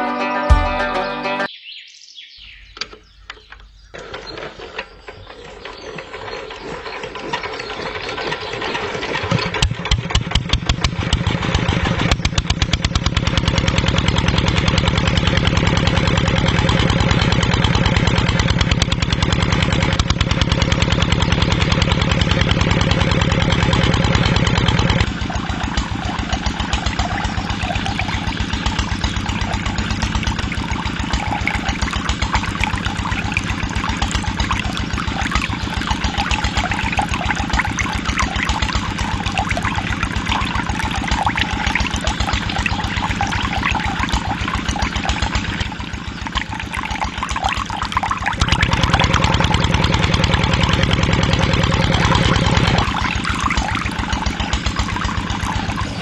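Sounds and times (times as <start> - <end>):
small engine pulsing: 4.0 - 56.0.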